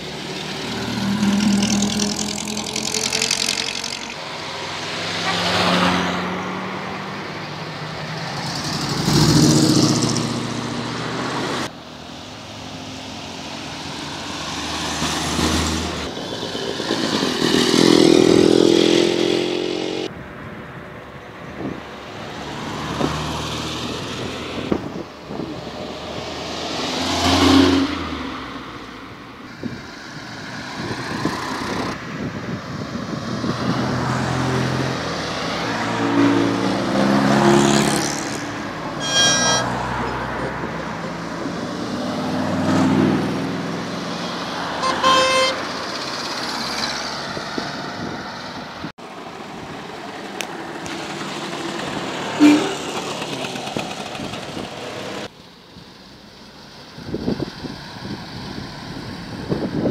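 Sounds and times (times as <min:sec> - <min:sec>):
cars driving past: 0:00.0 - 0:55.4.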